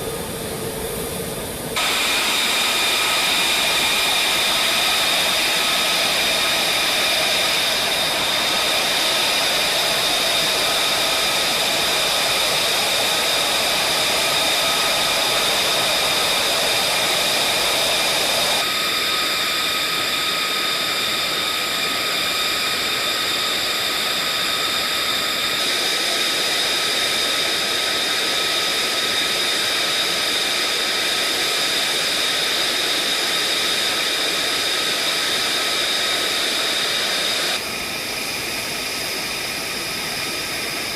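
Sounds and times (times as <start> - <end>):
jet engine high whine: 0.0 - 40.9
jet engine rushing noise: 0.0 - 40.9.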